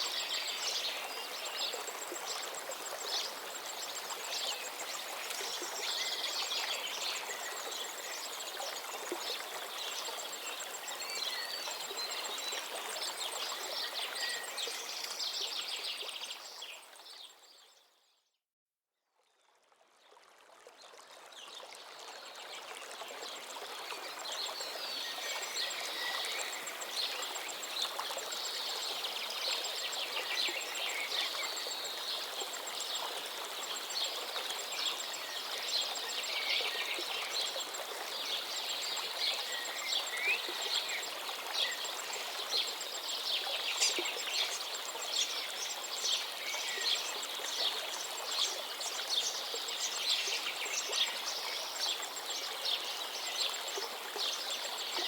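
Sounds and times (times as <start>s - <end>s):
stream water running: 0.0s - 17.6s, 19.4s - 55.0s.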